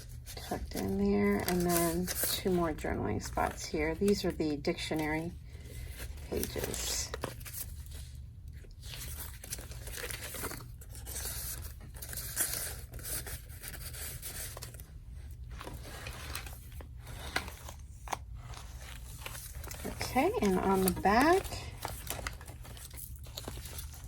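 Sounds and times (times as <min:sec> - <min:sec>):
paper and card rustling: 0:00.0 - 0:24.0.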